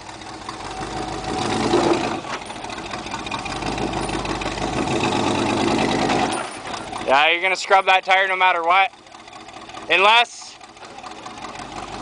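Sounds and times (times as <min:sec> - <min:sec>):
truck engine under load: 0:00.0 - 0:12.0.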